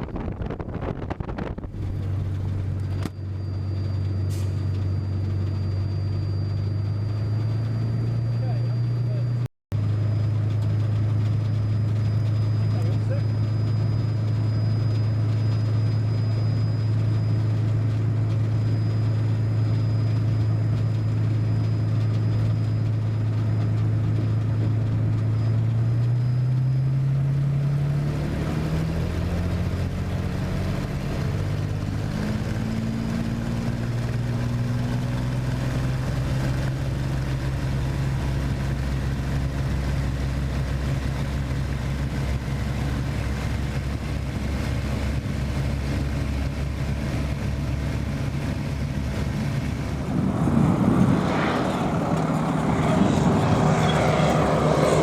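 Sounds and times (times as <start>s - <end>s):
piston aircraft engine droning: 0.0s - 55.0s.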